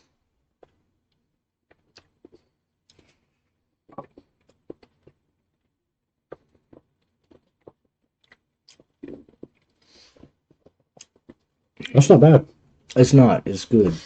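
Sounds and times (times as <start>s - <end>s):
people chewing: 0.5s - 13.0s.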